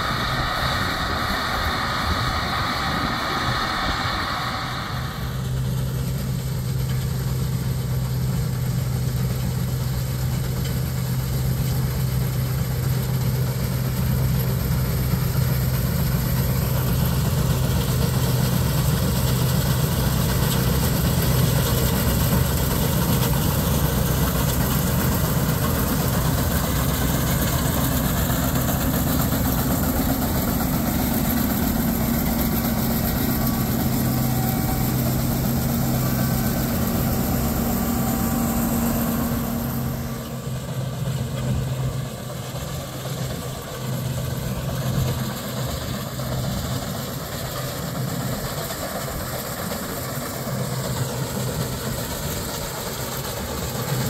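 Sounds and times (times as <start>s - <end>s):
higher machine hum: 0.0s - 52.6s
combine harvester engine hum: 0.0s - 54.0s.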